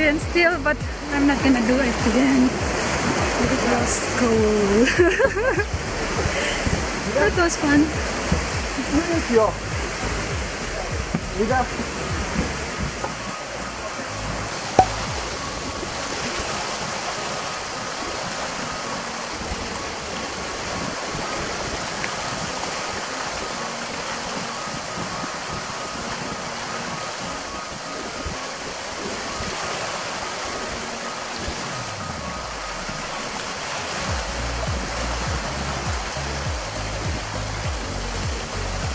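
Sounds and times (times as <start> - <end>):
small waves lapping shore: 0.0 - 38.9
wind: 0.0 - 38.9.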